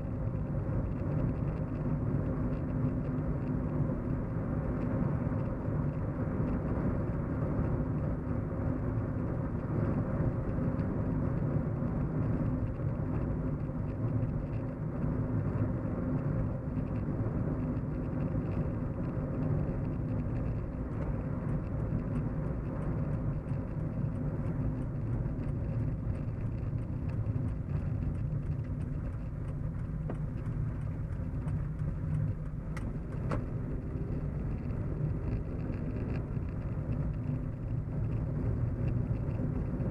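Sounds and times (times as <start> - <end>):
engine hum inside car: 0.0 - 39.9
road rumble: 0.0 - 39.9.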